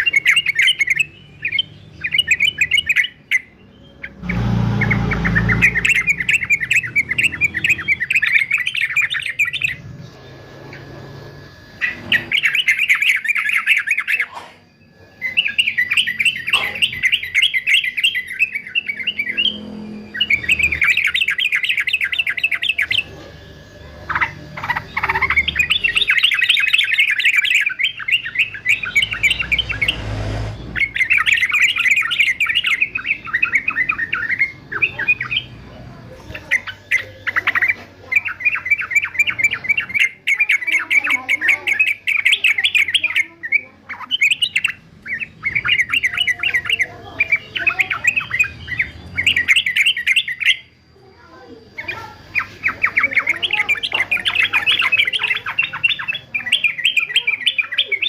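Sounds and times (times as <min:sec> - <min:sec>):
bird singing in chattering phrases: 0:00.0 - 0:58.0.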